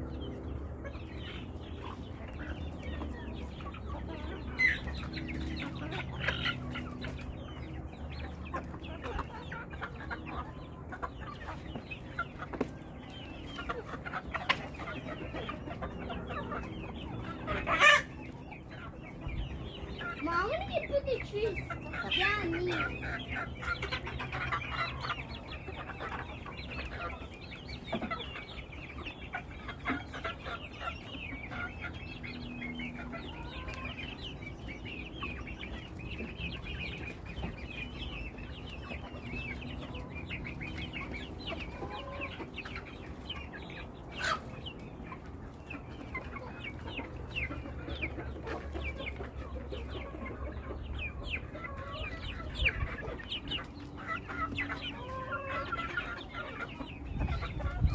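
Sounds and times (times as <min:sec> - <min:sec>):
chickens clucking and calling: 0:00.0 - 0:57.9.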